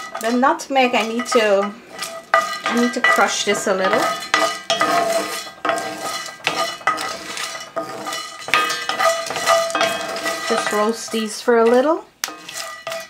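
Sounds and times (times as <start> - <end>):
spoon stirring spices in skillet: 0.0 - 13.0.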